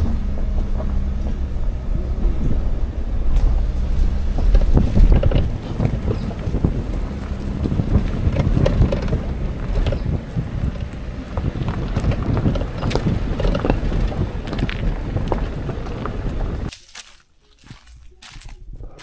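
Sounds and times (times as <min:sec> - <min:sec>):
wind buffeting microphone: 0:00.0 - 0:16.7
tyres rumbling over gravel: 0:00.0 - 0:16.8
gravel clicks under wheels: 0:00.0 - 0:19.0.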